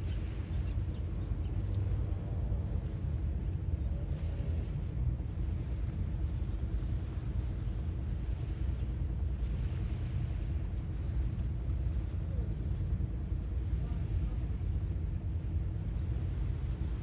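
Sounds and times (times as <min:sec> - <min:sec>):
sea waves on shore: 0:00.0 - 0:17.0
surf hiss: 0:00.0 - 0:17.0.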